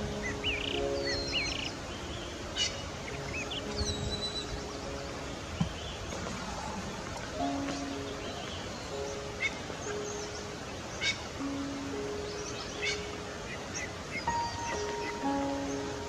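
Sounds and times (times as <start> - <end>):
soft music of held chords: 0.0 - 16.0
steady hiss: 0.0 - 16.0.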